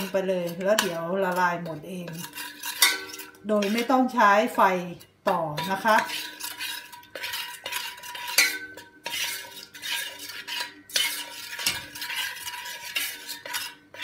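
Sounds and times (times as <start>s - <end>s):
spoon scraping metal saucepan: 0.0s - 14.0s.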